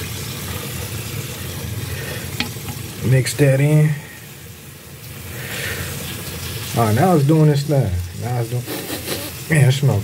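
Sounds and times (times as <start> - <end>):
food sizzling on a grill: 0.0 - 10.0.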